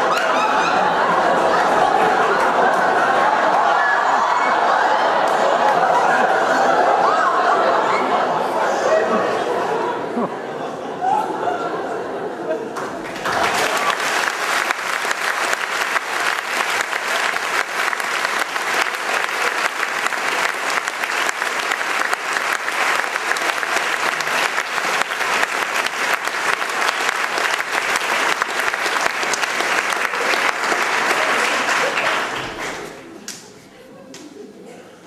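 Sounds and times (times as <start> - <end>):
audience applauding: 0.0 - 8.5, 12.7 - 33.4.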